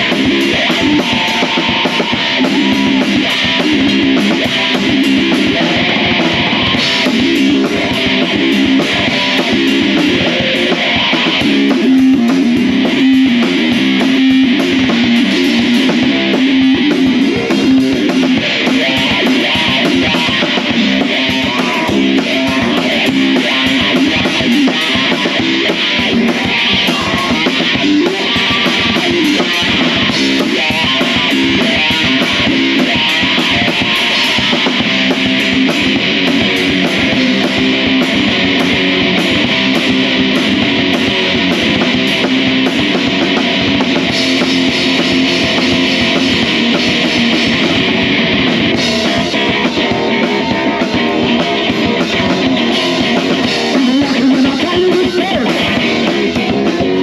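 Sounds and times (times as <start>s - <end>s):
drum kit: 0.0s - 57.0s
electric guitar through amplifier: 0.0s - 57.0s.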